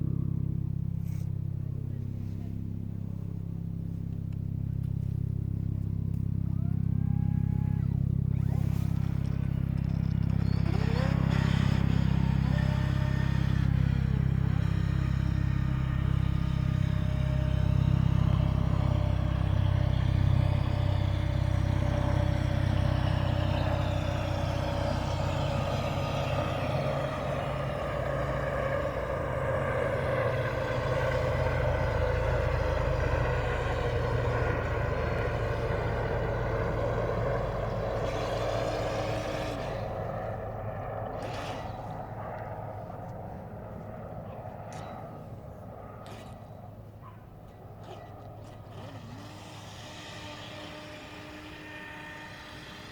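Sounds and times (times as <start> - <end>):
faint steady hum: 0.0 - 52.9
vehicle engine and road rumble: 0.0 - 52.9.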